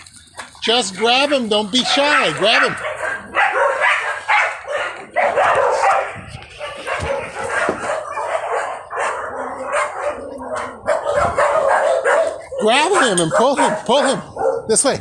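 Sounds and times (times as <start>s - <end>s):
dogs barking: 0.0s - 14.8s.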